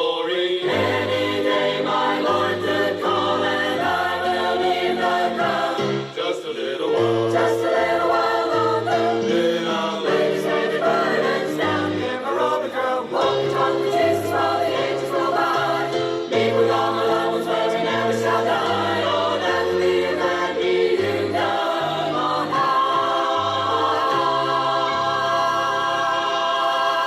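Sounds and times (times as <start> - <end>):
choir singing gospel: 0.0 - 27.0.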